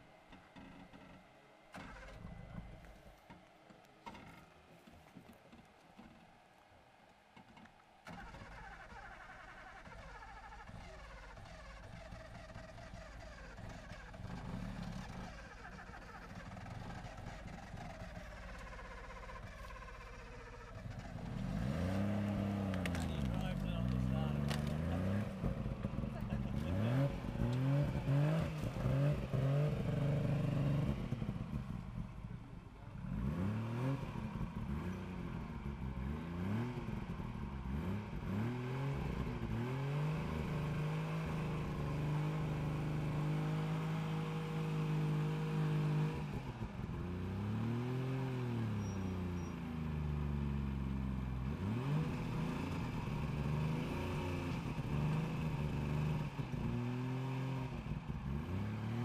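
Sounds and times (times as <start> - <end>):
off-road vehicle engine revving: 0.0 - 3.4, 8.0 - 59.0.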